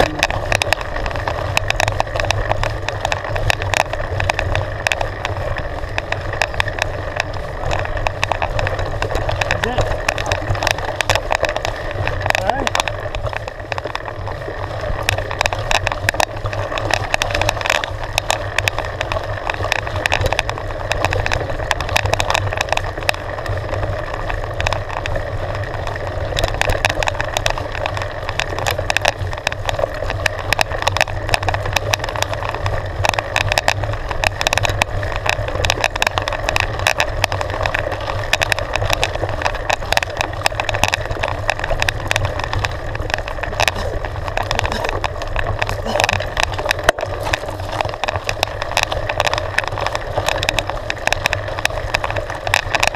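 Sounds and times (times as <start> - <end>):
bike rattles and knocks: 0.0 - 52.9
tyres crunching on gravel: 0.0 - 52.9.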